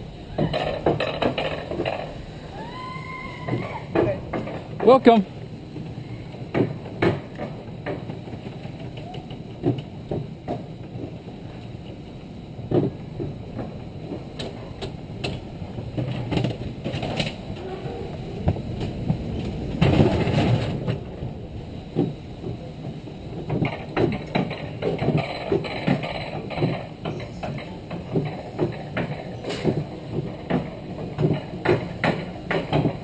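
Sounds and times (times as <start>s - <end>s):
sled rumbling on steel rails: 0.0s - 33.0s
track clacks and knocks: 0.0s - 33.0s.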